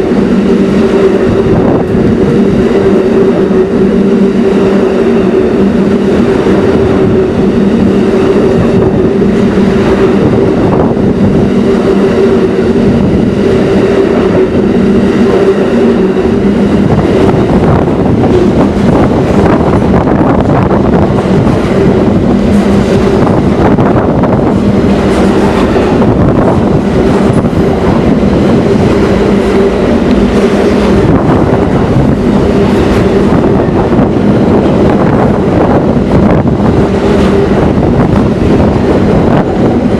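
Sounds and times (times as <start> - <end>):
train hum: 0.0 - 39.9
train wheels clickety-clack: 0.0 - 39.9.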